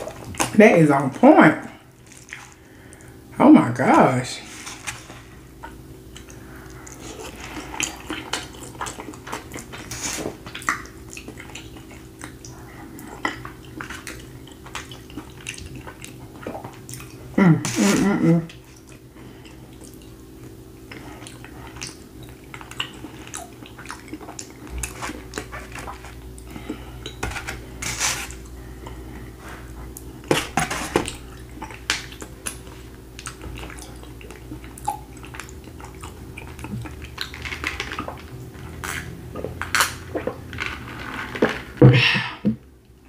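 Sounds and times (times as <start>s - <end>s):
low steady hum: 0.0s - 43.0s
chewing and mouth sounds: 5.0s - 17.9s, 18.5s - 40.5s.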